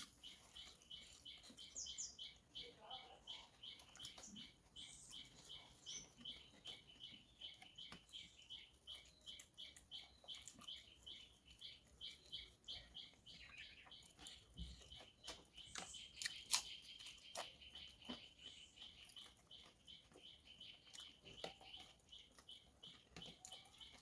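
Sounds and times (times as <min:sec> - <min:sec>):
faint clicks of eating: 0:00.0 - 0:24.0
small bird chirping: 0:00.0 - 0:24.0.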